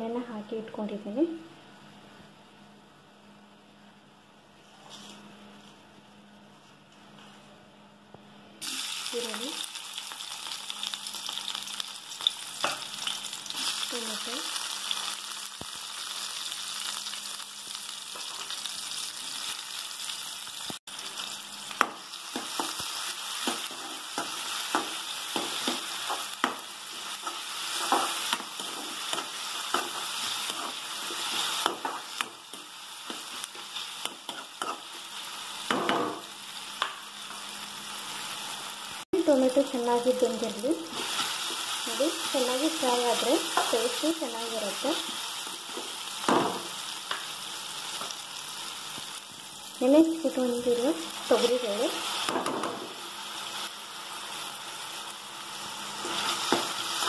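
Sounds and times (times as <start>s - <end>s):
vegetables sizzling in oil: 8.6s - 57.0s.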